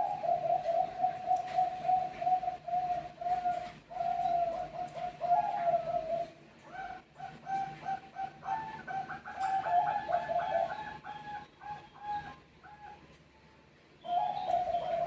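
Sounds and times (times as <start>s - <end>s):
doves cooing: 0.0s - 13.2s, 14.0s - 15.0s.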